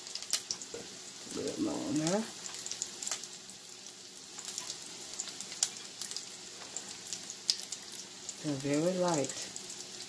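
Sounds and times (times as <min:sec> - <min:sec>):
croquettes frying in oil: 0:00.0 - 0:10.0.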